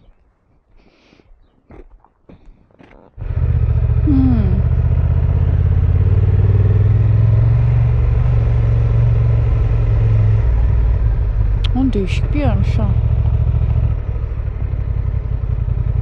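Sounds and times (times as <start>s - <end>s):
motorcycle engine running: 3.2s - 16.0s.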